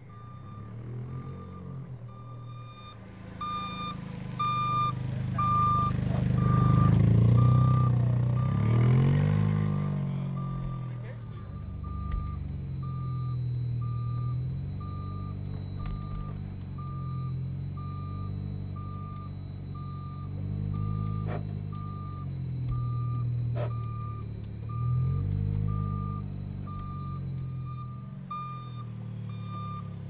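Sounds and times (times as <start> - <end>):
car engine running: 0.0 - 30.0
electronic warning beep: 0.0 - 30.0.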